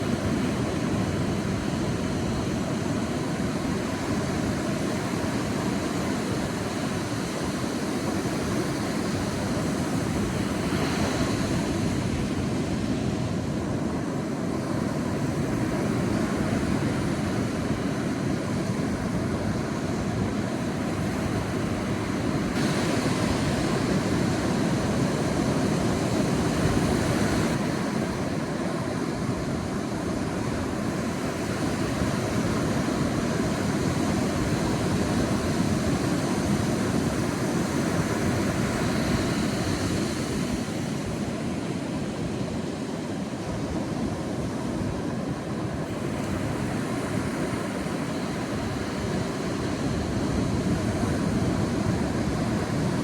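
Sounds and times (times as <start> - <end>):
sea waves breaking on beach: 0.0 - 53.0.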